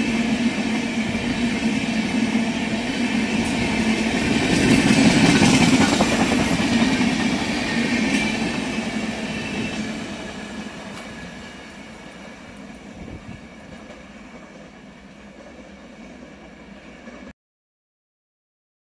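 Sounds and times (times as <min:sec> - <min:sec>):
train wheels on rails: 0:00.0 - 0:17.3.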